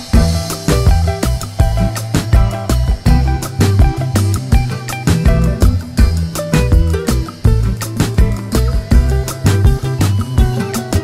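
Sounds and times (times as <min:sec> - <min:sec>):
bass line: 0:00.0 - 0:11.0
drum hits: 0:00.0 - 0:11.0.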